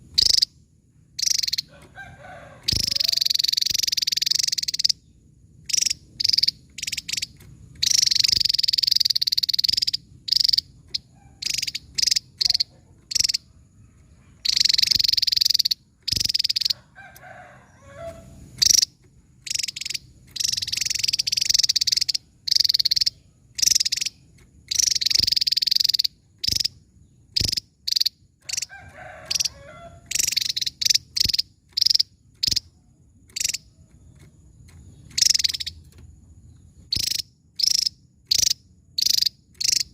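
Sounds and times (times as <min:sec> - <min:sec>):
bird singing high-pitched bursts: 0:00.1 - 0:00.6, 0:01.2 - 0:01.7, 0:02.6 - 0:13.5, 0:14.4 - 0:32.7, 0:35.0 - 0:35.9, 0:36.8 - 0:39.9.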